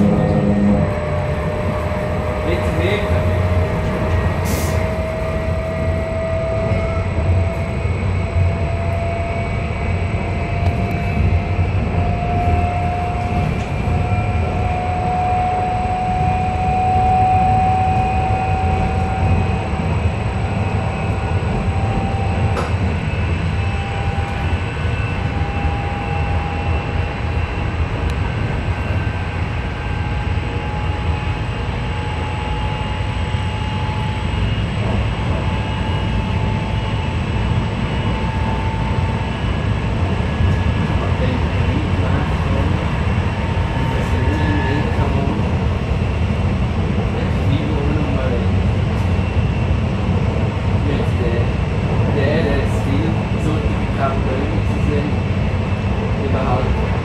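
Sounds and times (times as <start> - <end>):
rising motor whine: 0.0 - 47.2
train wheels rumbling: 0.0 - 57.0.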